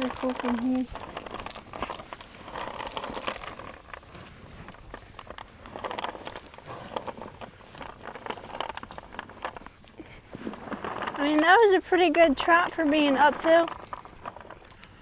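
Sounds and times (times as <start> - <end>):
cattle hooves thudding: 0.0 - 15.0.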